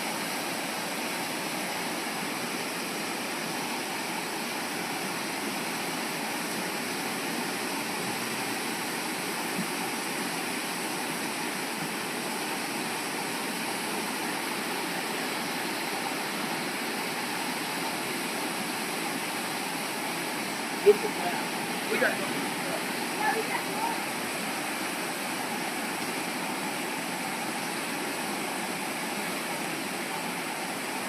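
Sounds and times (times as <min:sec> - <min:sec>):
flood water rushing: 0:00.0 - 0:31.0.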